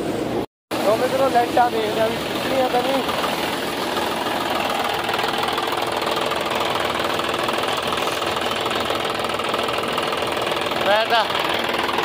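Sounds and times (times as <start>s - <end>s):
tractor and harvester droning: 0.0s - 12.0s.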